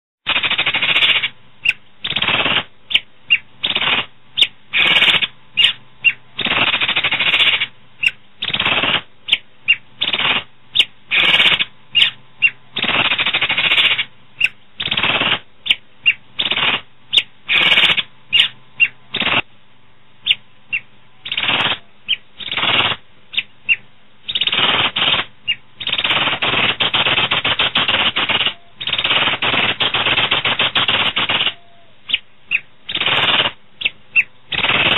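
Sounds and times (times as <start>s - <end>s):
starling harsh chattering song: 0.3s - 19.4s, 20.3s - 34.9s.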